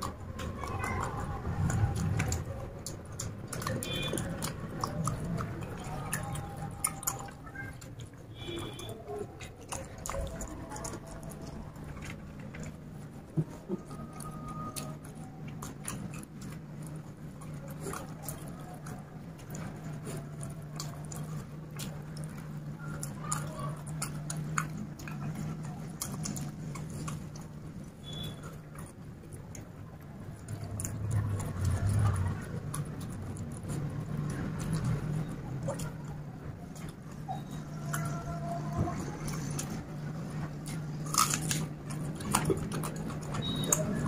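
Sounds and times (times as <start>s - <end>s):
chewing food: 0.0s - 44.0s
wet mouth clicks and smacks: 0.0s - 44.0s.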